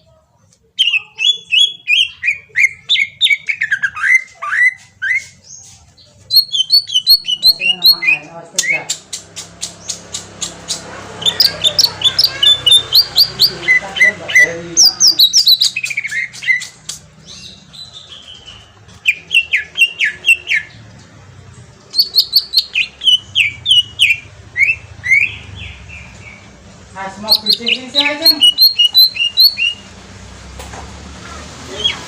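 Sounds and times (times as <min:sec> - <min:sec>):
bird chirping and whistling: 0:00.8 - 0:05.5, 0:06.3 - 0:20.8, 0:21.9 - 0:26.5, 0:27.2 - 0:29.9.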